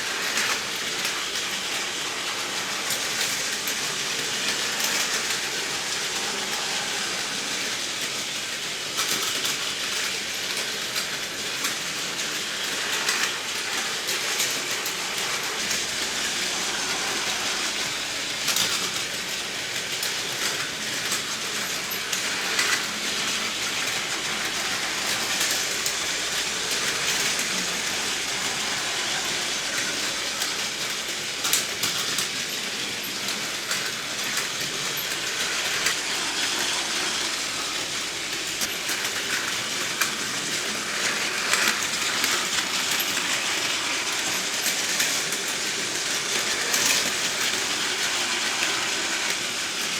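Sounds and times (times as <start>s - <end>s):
clicks of toy track: 0.0s - 49.9s
toy trains whirring rattle: 0.0s - 49.9s.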